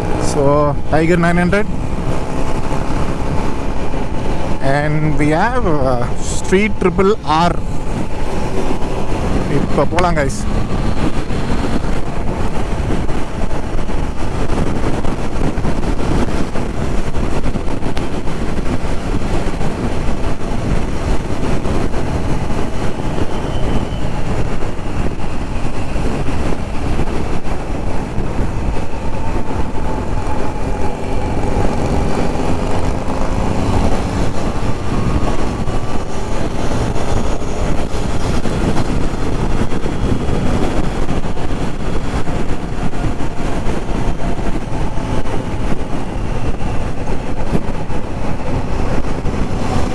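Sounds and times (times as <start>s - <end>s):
motorcycle engine: 0.0s - 49.9s
wind rumble: 0.0s - 49.9s.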